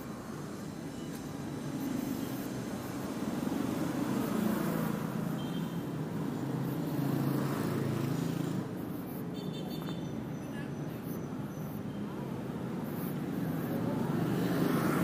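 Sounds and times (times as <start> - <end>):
traffic passing close by: 0.0 - 15.0.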